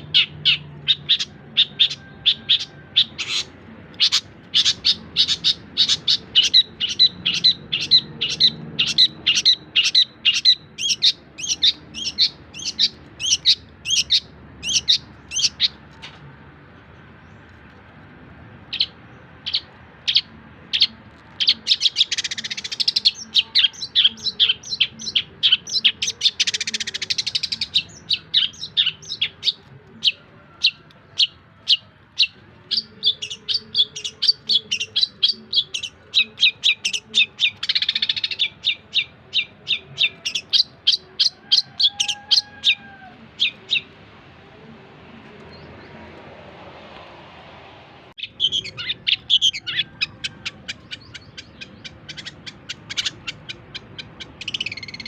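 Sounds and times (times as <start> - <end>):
bird singing sharp rapid chirps: 0.0 - 16.2, 18.6 - 42.1, 48.2 - 55.0.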